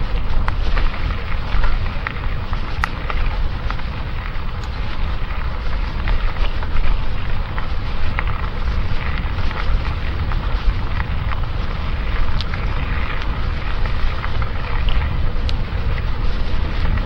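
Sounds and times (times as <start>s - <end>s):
light raindrop ticks: 0.0s - 17.0s
rain hiss: 0.0s - 17.0s
wind buffeting microphone: 0.0s - 17.0s.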